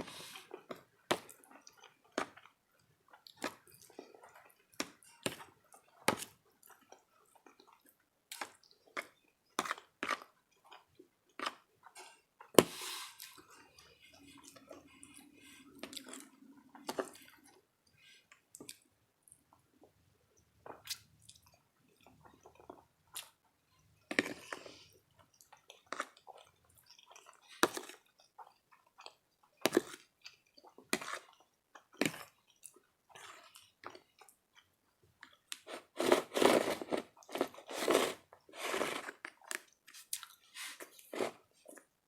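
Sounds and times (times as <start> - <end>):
chewing and crunching food: 0.0 - 42.0.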